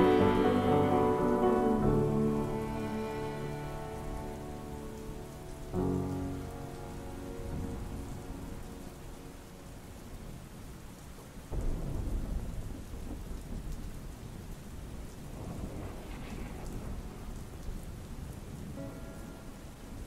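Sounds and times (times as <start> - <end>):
thunder rumble: 0.0 - 10.6, 11.4 - 20.0
pouring rain: 0.0 - 20.0.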